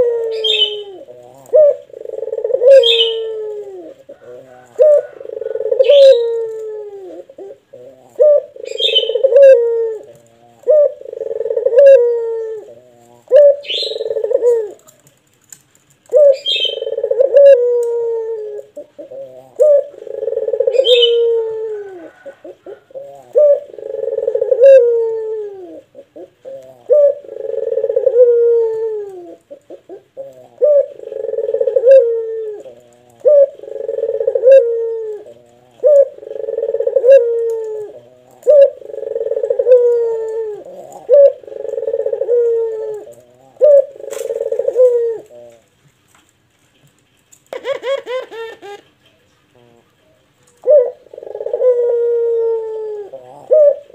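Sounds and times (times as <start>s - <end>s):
dove cooing: 0.0s - 45.9s, 47.3s - 53.9s.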